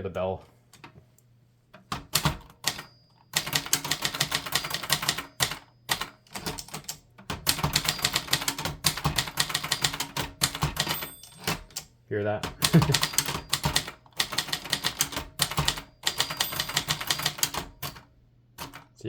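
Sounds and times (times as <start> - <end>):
typewriter keys clacking: 1.8 - 18.9.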